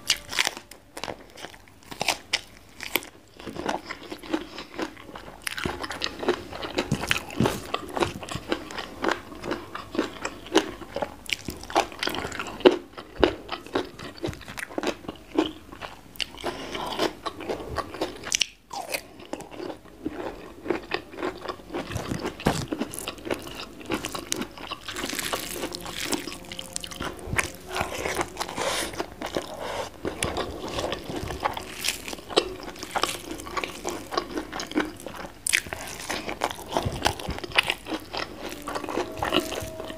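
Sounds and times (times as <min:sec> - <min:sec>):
crunching raw vegetables: 0:00.0 - 0:39.9.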